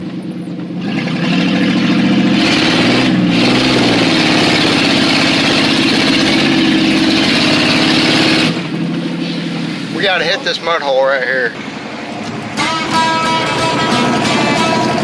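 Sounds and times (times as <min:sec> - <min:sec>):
truck engine revving hard: 0:00.0 - 0:15.0
loud rushing noise: 0:02.4 - 0:15.0.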